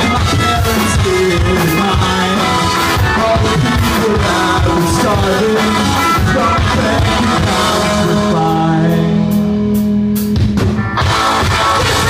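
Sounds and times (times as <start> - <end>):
person singing: 0.0 - 9.8
live rock band playing: 0.0 - 12.0.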